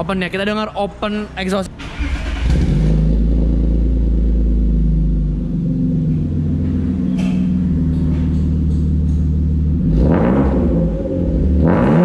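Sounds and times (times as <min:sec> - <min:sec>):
car exhaust rumbling: 0:02.3 - 0:12.0.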